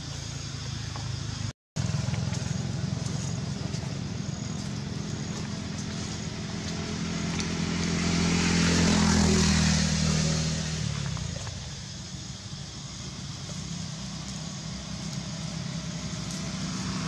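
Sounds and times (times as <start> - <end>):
vehicle engine passing by: 1.4 - 17.0.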